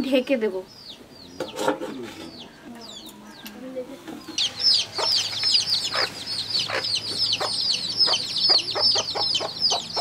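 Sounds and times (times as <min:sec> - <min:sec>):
chicks peeping: 0:00.6 - 0:10.0
hen clucking: 0:00.8 - 0:10.0.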